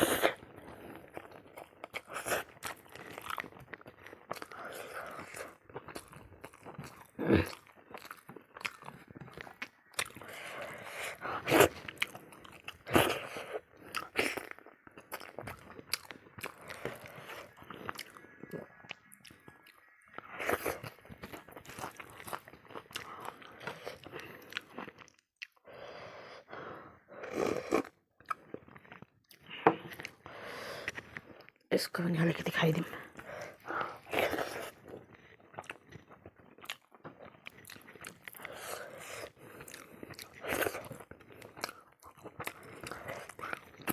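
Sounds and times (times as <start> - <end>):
person chewing and crunching: 0.0 - 31.7, 32.9 - 43.9.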